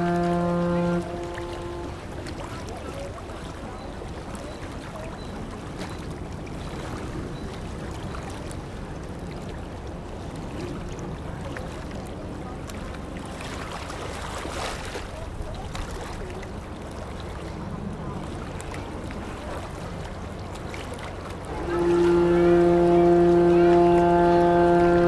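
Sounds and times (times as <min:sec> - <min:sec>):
ship engine low rumble: 0:00.0 - 0:25.0
water rushing and splashing: 0:00.0 - 0:25.0.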